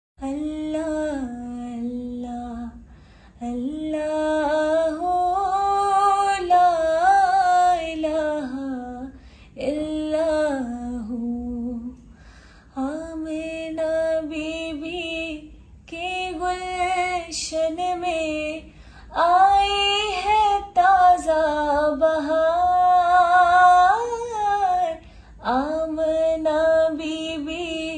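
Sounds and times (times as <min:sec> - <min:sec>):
woman singing: 0:00.2 - 0:12.0, 0:12.7 - 0:27.9.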